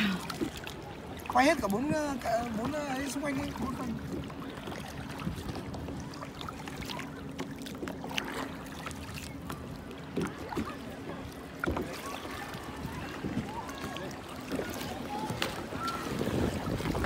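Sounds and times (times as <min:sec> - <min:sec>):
water lapping against boat: 0:00.0 - 0:17.0.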